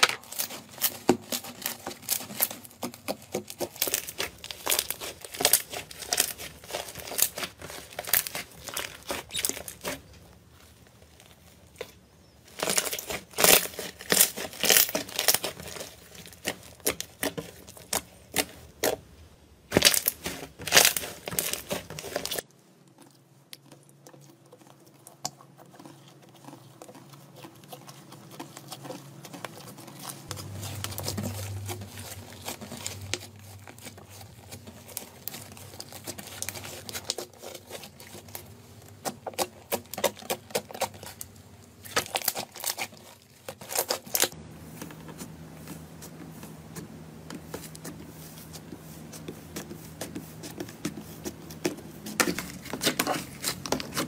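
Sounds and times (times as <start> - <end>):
slime crackling and squishing: 0.0 - 54.0.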